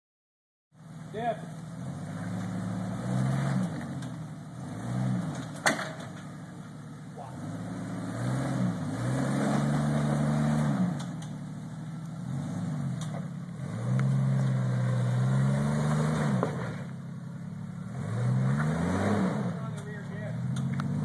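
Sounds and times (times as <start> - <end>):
engine revving under load: 1.6 - 6.2, 7.2 - 21.0.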